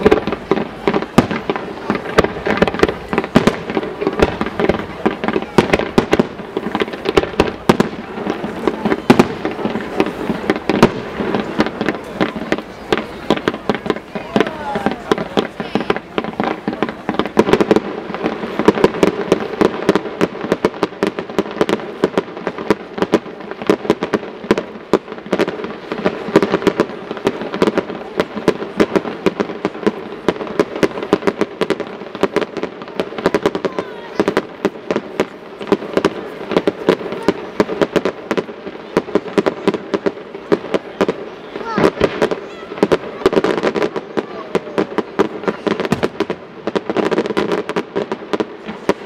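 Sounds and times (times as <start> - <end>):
fireworks bursts and crackling: 0.0 - 49.0.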